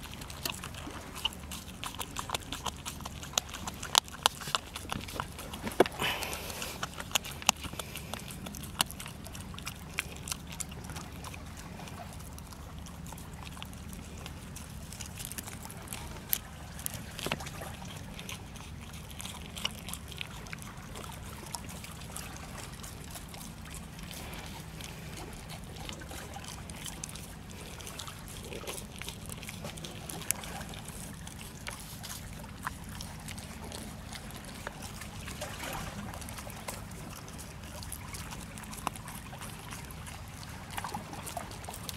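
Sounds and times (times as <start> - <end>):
low background rumble: 0.0 - 41.9
puppy chewing with crunches: 0.0 - 41.9.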